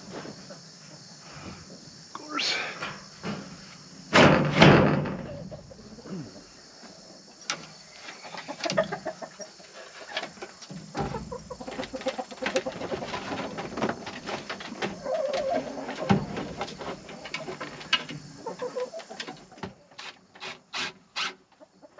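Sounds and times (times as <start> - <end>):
chickens clucking: 0.0 - 4.1, 5.0 - 20.1, 21.0 - 21.9.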